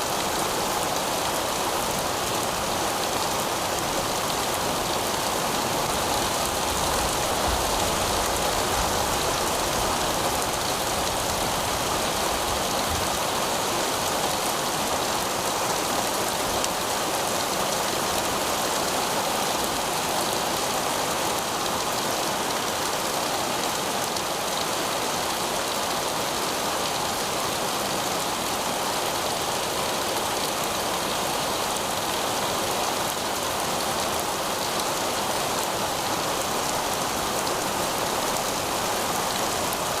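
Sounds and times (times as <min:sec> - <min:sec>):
heavy rain on pavement: 0:00.0 - 0:40.0.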